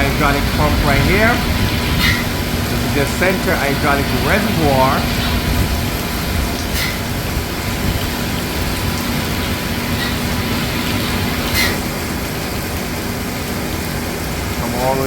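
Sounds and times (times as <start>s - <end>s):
hydraulic pump humming: 0.0s - 15.0s
rain hissing: 0.0s - 15.0s.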